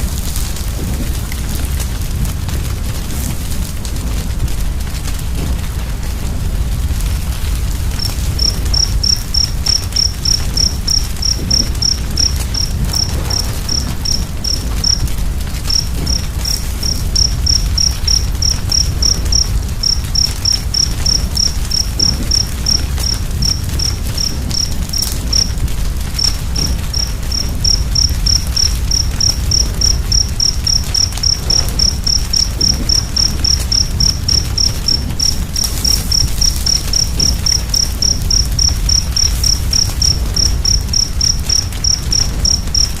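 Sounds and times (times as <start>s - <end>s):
wood fire rumbling and crackling: 0.0s - 43.0s
cricket chirping: 6.8s - 43.0s.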